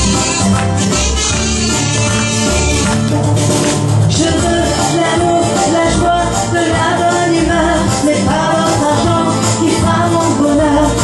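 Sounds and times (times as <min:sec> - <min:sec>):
instrumental music with bass line: 0:00.0 - 0:11.0.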